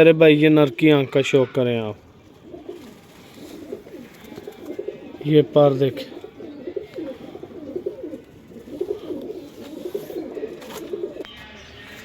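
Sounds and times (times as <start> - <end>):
pigeons cooing: 2.2 - 12.0.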